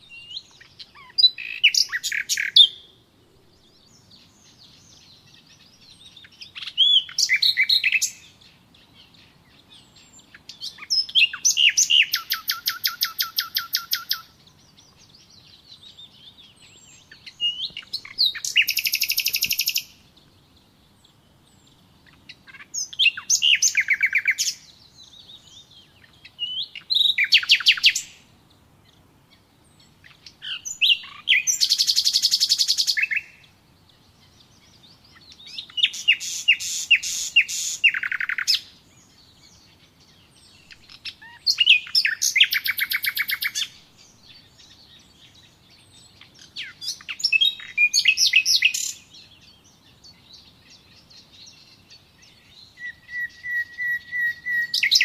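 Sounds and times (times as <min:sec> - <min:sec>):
songbird trilling: 0:00.0 - 0:03.0, 0:03.6 - 0:55.0
faint bird chirps: 0:00.0 - 0:55.0.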